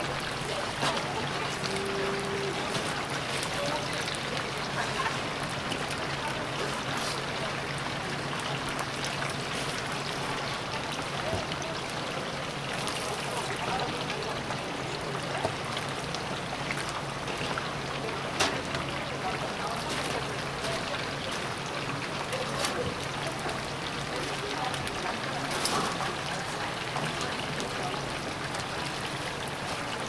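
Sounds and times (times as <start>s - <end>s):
oil sizzling: 0.0s - 30.0s.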